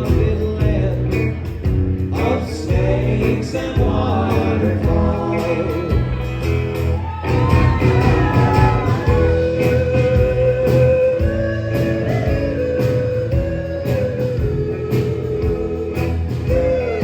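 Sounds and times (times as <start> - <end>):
live country band: 0.0 - 17.0
person singing: 2.1 - 6.5, 7.4 - 17.0.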